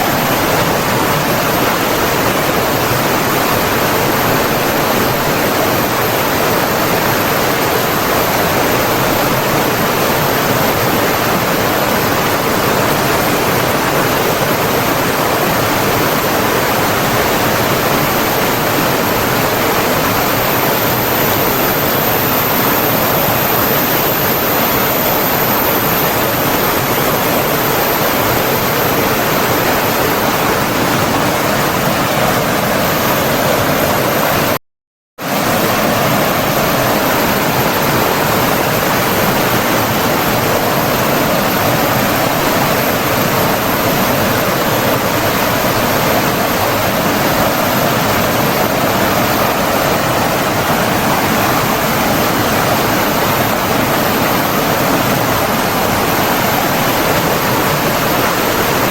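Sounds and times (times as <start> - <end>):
flowing water rushing: 0.0 - 34.6, 35.2 - 58.9.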